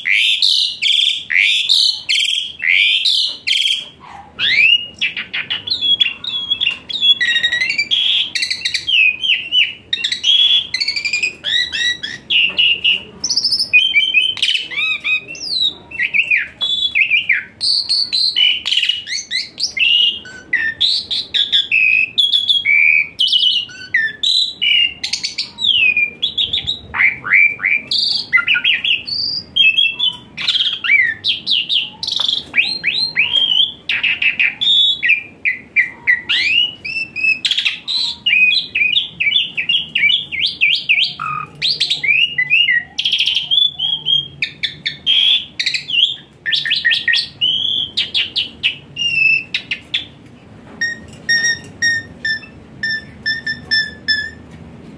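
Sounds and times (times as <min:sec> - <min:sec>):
starling singing: 0:00.0 - 0:50.2, 0:50.8 - 0:54.5.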